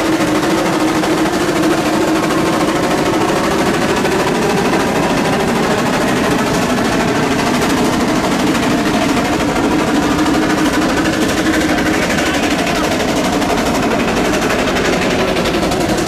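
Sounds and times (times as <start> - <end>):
steam tractor running: 0.0 - 16.0.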